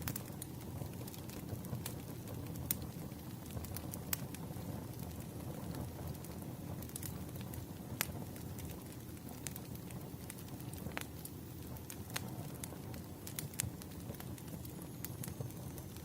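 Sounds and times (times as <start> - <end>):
rumble of campfire flames: 0.0 - 16.0
wood crackling and popping: 0.0 - 16.0.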